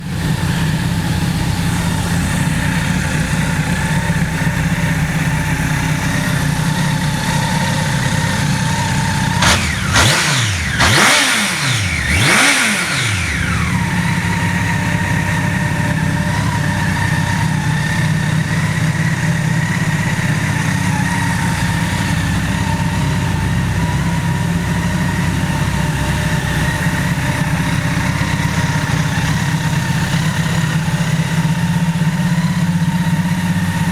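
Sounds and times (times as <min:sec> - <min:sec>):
engine revving: 0:00.0 - 0:33.9
motorcycle engine idling: 0:00.0 - 0:33.9.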